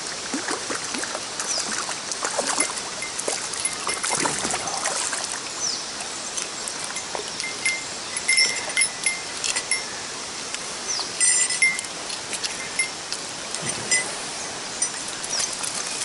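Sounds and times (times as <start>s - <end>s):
stream water running: 0.0s - 16.0s.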